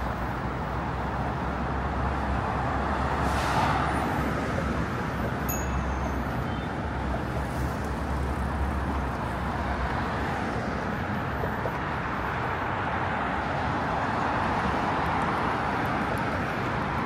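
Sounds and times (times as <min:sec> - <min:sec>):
road traffic rush: 0:00.0 - 0:17.0.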